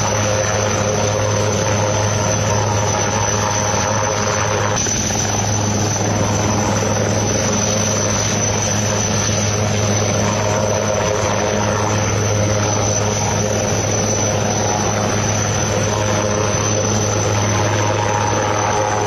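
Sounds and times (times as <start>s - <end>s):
motor running steadily: 0.0s - 19.0s.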